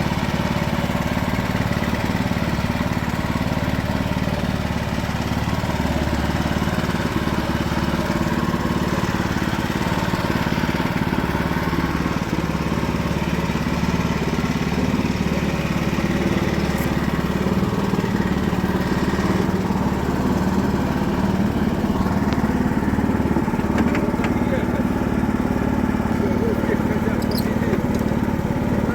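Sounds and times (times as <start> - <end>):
small boat engine running: 0.0 - 28.9.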